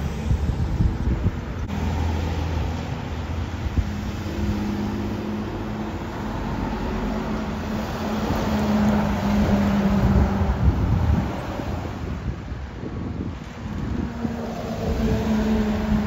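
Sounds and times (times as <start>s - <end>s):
bus engine hum: 0.0s - 16.0s
road and rattle noise: 0.0s - 16.0s.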